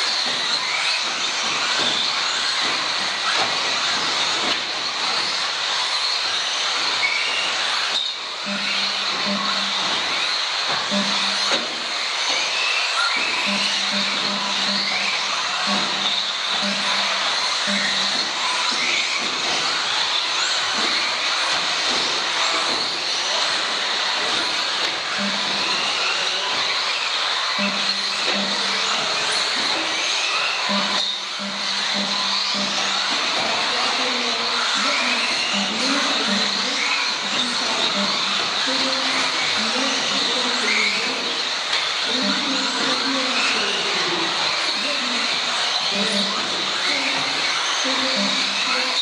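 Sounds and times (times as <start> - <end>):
high motor whines: 0.0 - 49.0
whir of small electric motors: 0.0 - 49.0.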